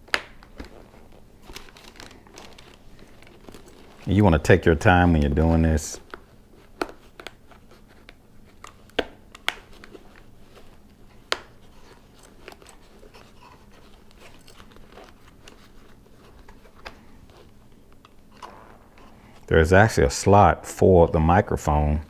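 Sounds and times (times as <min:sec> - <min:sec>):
pads rustling: 0:00.0 - 0:22.0.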